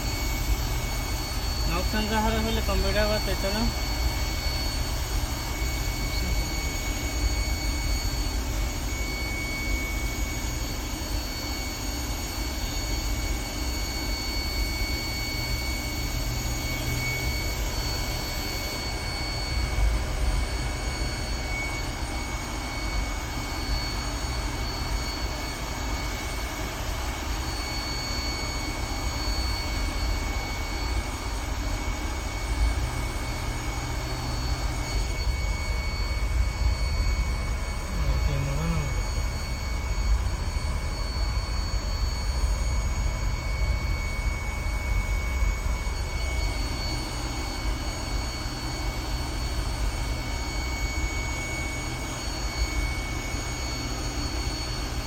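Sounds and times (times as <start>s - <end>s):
engine running with high whine: 0.0s - 55.0s.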